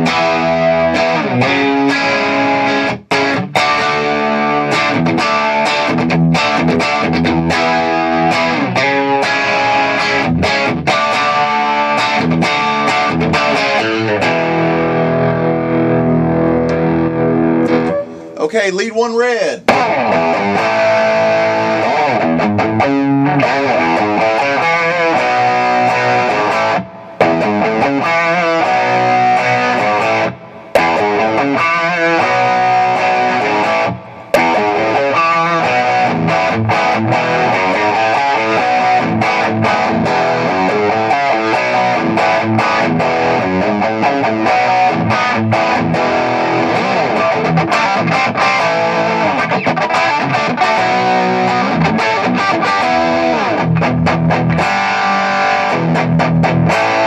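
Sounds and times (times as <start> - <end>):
distorted electric guitar: 0.0 - 18.7, 19.5 - 57.0.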